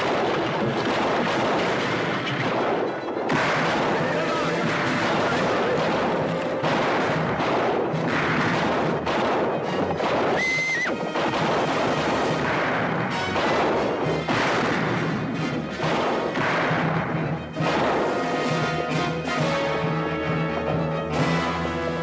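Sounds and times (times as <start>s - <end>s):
dramatic orchestral music: 0.0s - 22.0s
gunfire: 0.0s - 22.0s.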